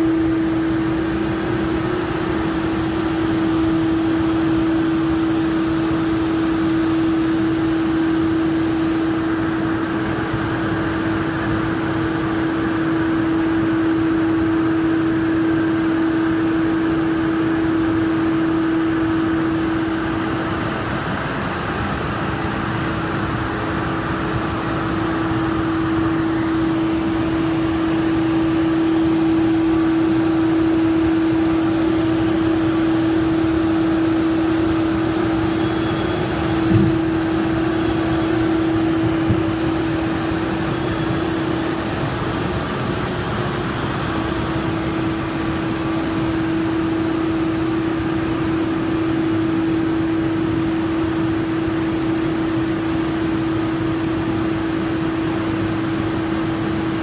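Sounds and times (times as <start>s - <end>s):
machine running with steady tone: 0.0s - 57.0s.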